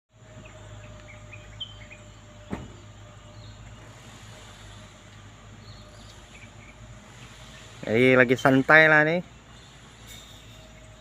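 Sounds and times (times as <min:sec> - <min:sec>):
insect drone: 0:00.1 - 0:11.0
small birds chirping: 0:00.2 - 0:11.0.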